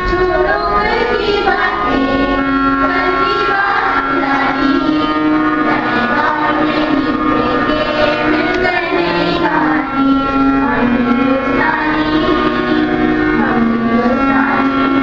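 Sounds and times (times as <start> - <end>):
girls singing over loudspeakers: 0.0 - 15.0.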